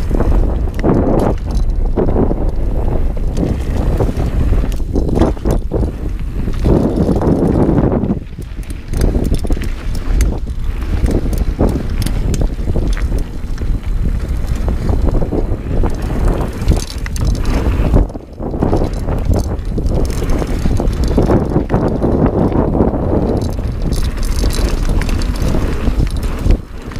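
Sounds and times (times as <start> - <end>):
bike rattling over bumps: 0.0 - 26.9
bike tyres rolling over dirt: 0.0 - 26.9
wind noise on microphone: 0.0 - 26.9.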